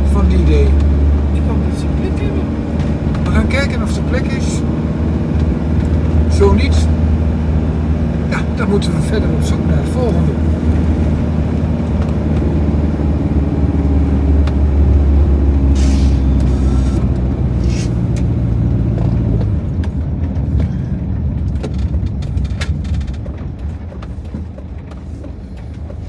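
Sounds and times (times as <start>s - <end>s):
van engine running: 0.0s - 26.0s.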